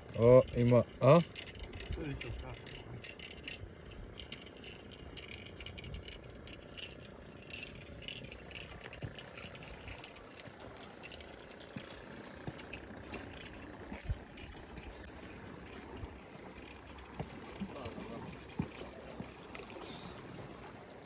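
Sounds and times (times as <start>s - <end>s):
fishing reel clicking: 0.0s - 21.0s
wind and water: 0.0s - 21.0s.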